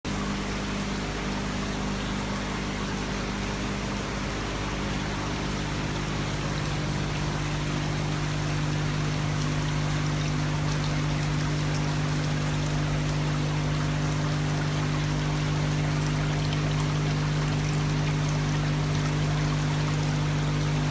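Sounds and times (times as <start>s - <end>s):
fountain water trickling and splashing: 0.1s - 20.9s
steady low hum: 0.1s - 20.9s.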